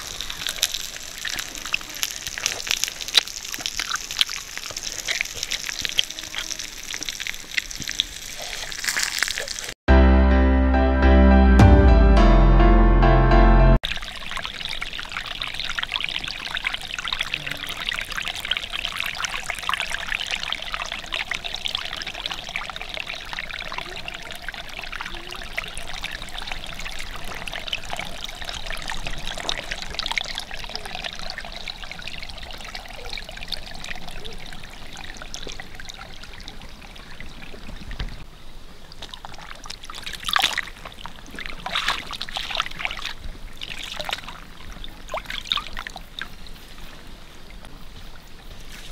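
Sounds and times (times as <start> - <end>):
stream flowing over stones: 0.0 - 9.8, 13.8 - 47.7
water splashes: 0.0 - 9.8, 13.8 - 48.9.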